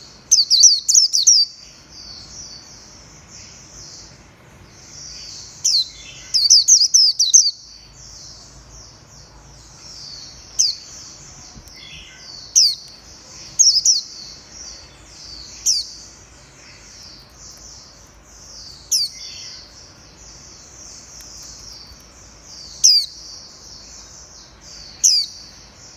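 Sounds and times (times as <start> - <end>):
bird twittering warble: 4.7 - 25.9.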